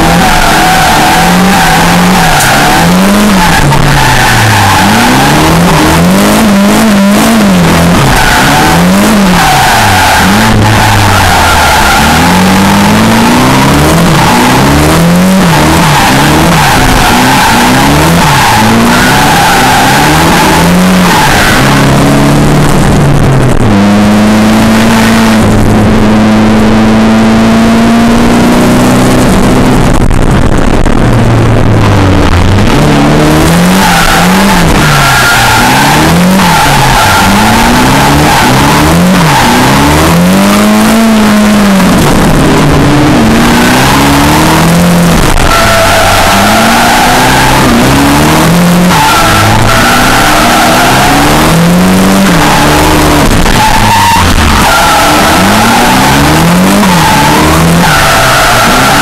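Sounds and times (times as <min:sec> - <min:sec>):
car engine revving: 0:00.0 - 0:59.0
tire squeal: 0:00.0 - 0:59.0.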